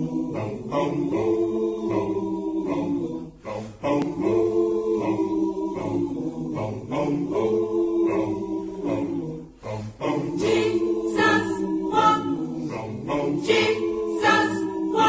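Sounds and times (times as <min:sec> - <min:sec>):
a cappella group singing harmony: 0:00.0 - 0:15.0
voices singing bum bum rhythm: 0:00.0 - 0:15.0.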